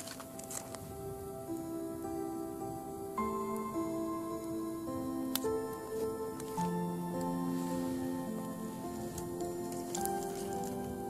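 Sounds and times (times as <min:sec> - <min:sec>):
gentle slow background music: 0:00.0 - 0:11.0.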